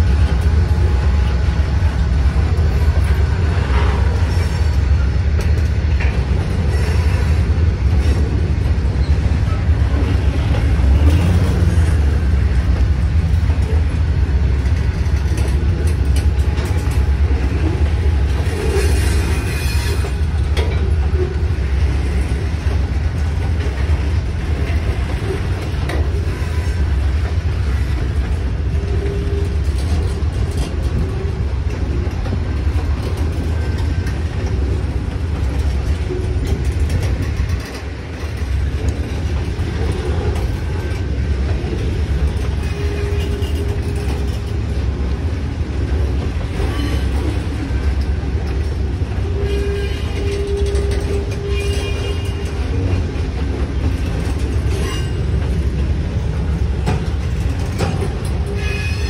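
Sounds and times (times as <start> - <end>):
clanks and clicks of freight cars: 0.0 - 59.0
train wheels rumbling on rail: 0.0 - 59.0.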